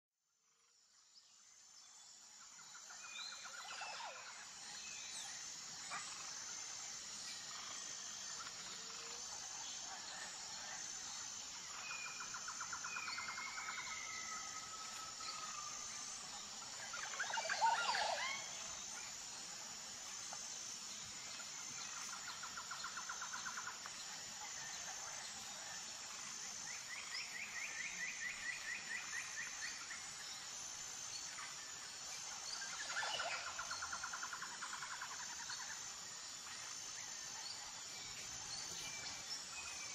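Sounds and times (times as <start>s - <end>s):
high insect drone: 0.4s - 39.9s.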